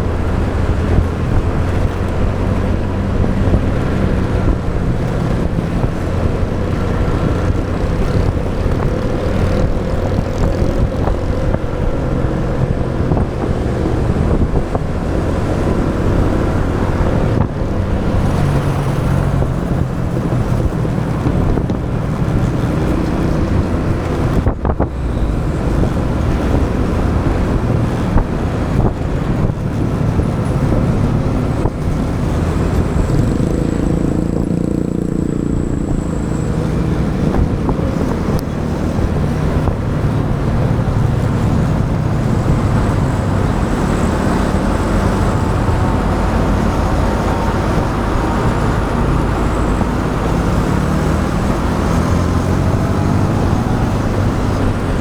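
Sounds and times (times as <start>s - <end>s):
motorbike engine: 0.0s - 55.0s
road traffic noise: 0.0s - 55.0s.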